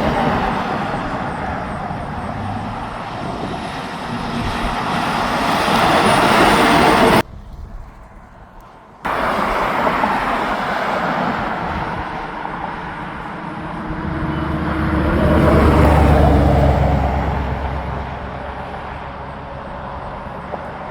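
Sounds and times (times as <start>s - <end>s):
heavy vehicle engine drone: 0.0s - 20.9s
highway traffic noise: 0.0s - 20.9s.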